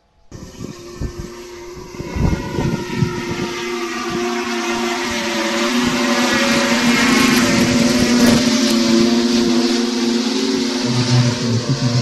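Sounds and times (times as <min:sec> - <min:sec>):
drone propellers buzzing hum: 0:00.0 - 0:12.0
low rumbling gusts: 0:00.0 - 0:12.0.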